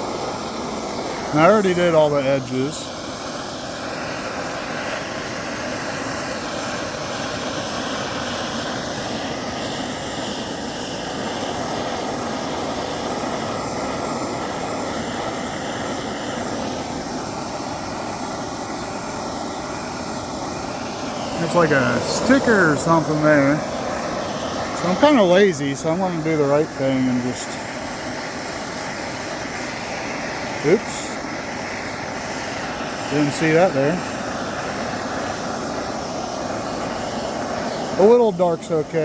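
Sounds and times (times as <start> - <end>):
torch flame roaring: 0.0 - 39.0.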